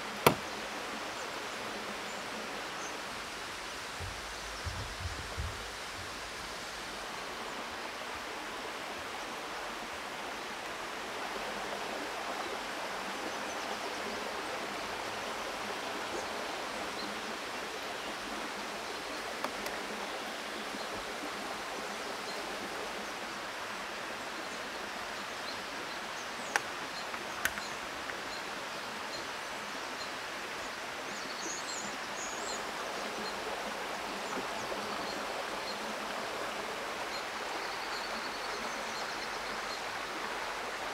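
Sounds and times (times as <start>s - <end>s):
forest stream rushing: 0.0s - 40.9s.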